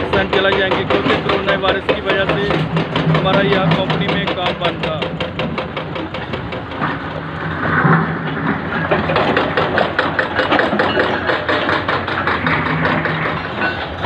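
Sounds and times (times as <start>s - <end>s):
hydraulic breaker pounding rock: 0.0s - 14.0s.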